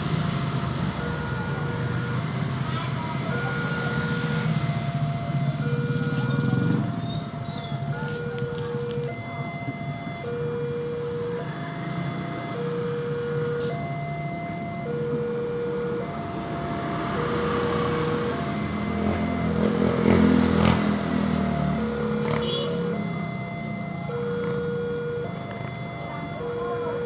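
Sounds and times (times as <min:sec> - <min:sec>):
level crossing two-note alarm: 0:00.0 - 0:27.0.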